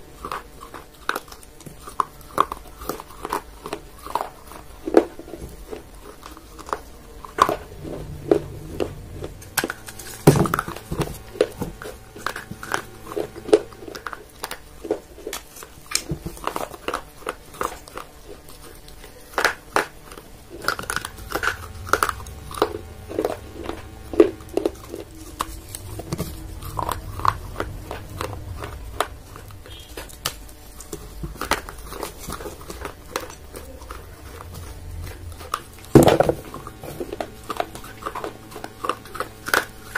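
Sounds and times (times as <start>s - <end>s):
clay pot crunching when chewed: 0.0s - 39.9s.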